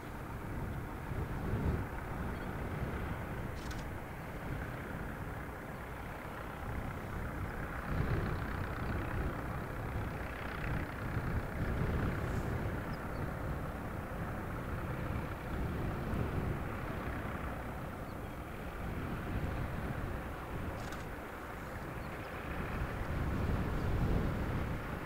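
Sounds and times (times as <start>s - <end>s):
tractor engines rumbling: 0.0s - 25.0s.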